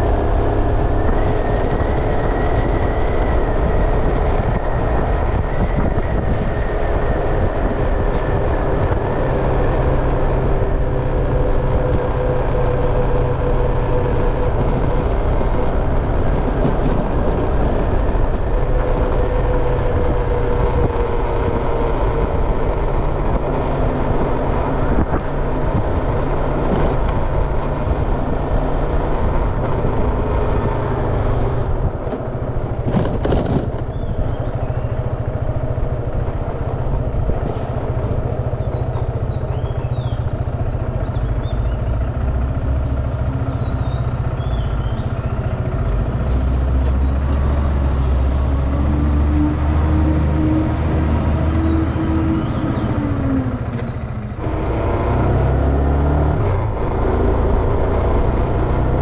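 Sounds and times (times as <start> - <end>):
motorcycle engine droning: 0.0 - 59.0
road and air rush: 0.0 - 59.0.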